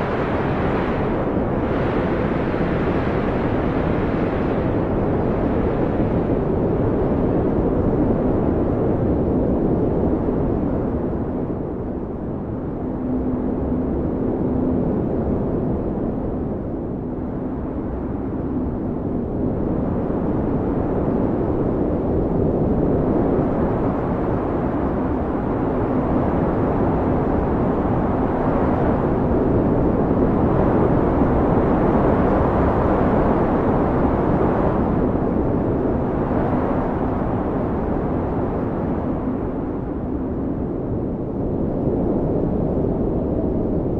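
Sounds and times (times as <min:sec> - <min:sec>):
gusting snowstorm wind: 0:00.0 - 0:43.9.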